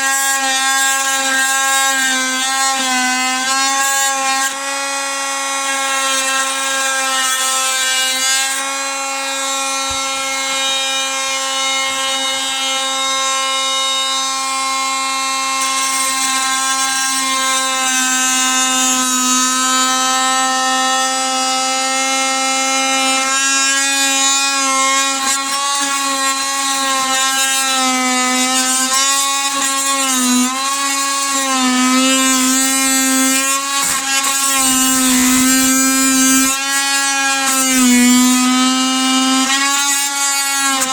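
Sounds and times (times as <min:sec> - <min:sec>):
oscillating tool cutting wood: 0:00.0 - 0:40.9.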